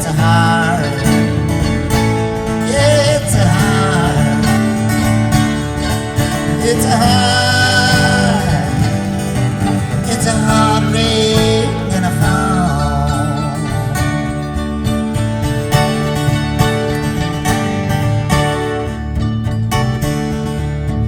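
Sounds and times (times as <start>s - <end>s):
live folk-rock band: 0.0s - 21.0s
sliding lead melody: 0.0s - 21.0s.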